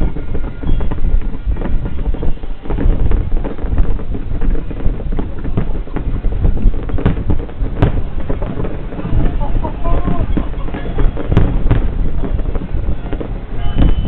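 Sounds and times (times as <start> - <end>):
firework pops and crackles: 0.0 - 14.0
sharp firework bangs: 0.0 - 14.0
wind buffeting microphone: 0.0 - 14.0.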